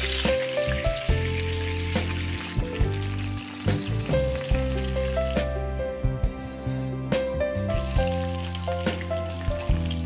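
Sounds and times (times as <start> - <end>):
gentle background music: 0.0 - 10.0.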